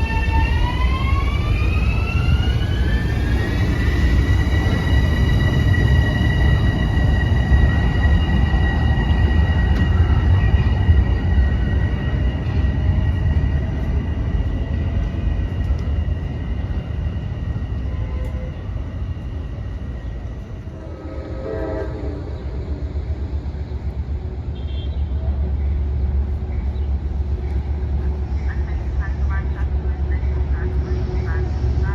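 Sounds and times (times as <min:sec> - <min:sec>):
train wheels rumbling on rail: 0:00.0 - 0:31.9.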